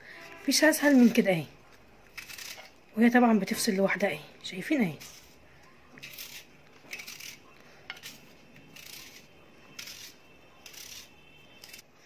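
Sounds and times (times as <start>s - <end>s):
knife cutting and scraping onion: 0.1s - 12.0s.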